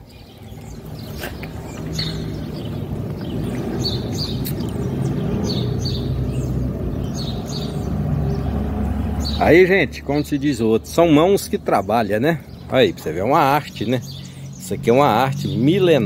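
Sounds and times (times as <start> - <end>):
small birds chirping: 0.0 - 16.0
vehicle engine hum: 0.0 - 16.0.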